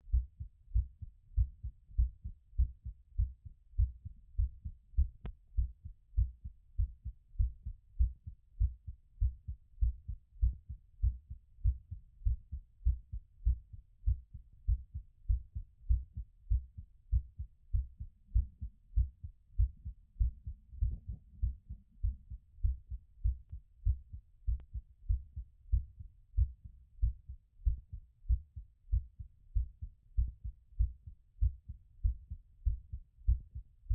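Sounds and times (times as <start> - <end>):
fast heartbeat through stethoscope: 0.1 - 33.9.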